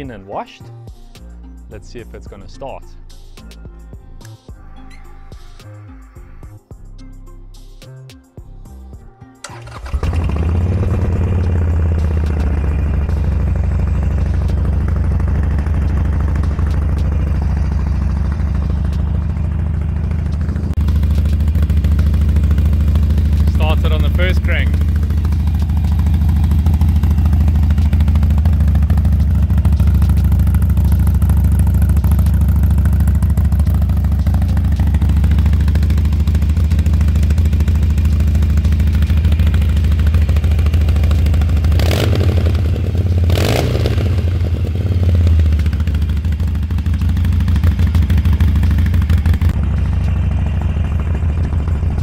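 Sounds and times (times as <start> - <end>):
motorcycle engine idling: 9.4 - 52.0.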